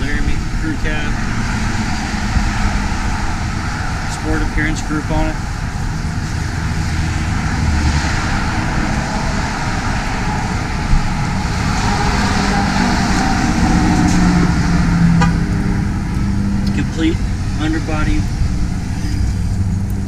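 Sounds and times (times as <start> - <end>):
road traffic noise: 0.0 - 20.0
vehicle engine hum: 0.0 - 20.0.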